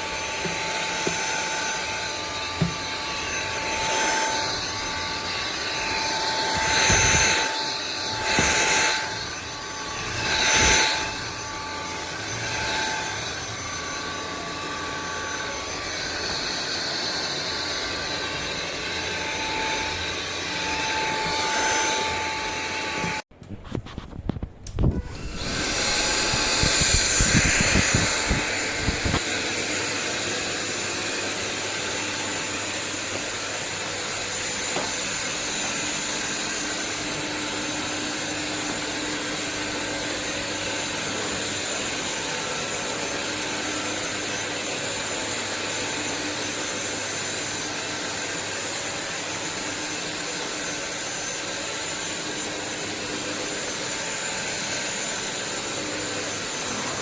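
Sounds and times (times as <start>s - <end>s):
stick vacuum whirring: 0.0s - 57.0s.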